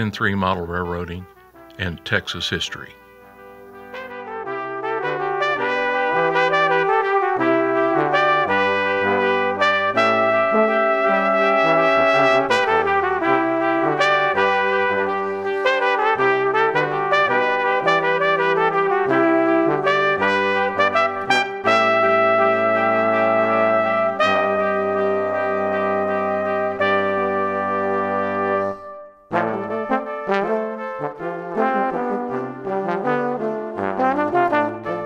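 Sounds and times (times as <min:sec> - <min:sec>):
brass music with bass line: 0:00.0 - 0:35.0.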